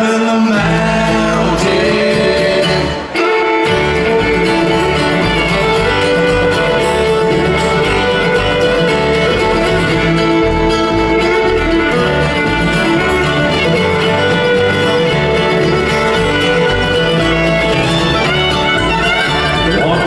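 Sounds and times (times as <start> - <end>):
country band playing: 0.0 - 20.0.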